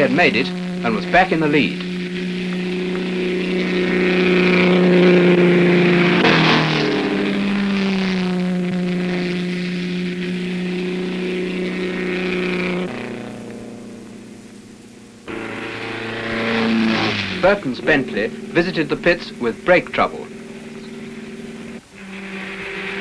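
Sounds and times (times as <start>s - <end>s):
racing car engine at high revs: 0.0s - 23.0s.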